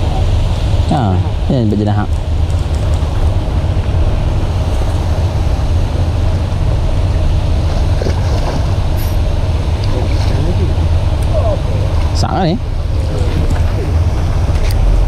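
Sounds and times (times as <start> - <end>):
churning water: 0.0 - 15.0
low machine drone: 0.0 - 15.0.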